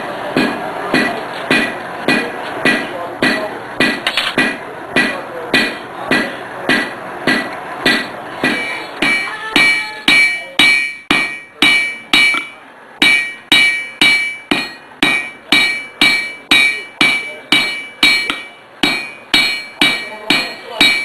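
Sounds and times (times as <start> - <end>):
hammer striking hot iron on anvil: 0.3 - 21.0
anvil ringing: 0.4 - 21.0.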